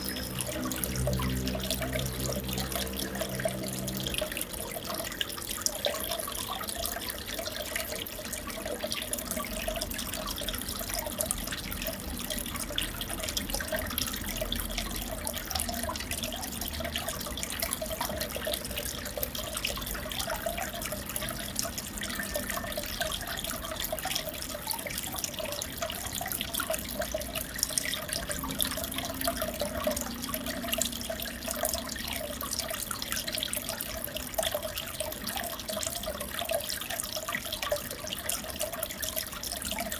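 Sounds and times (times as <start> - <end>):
aquarium water trickling and bubbling: 0.0 - 39.9.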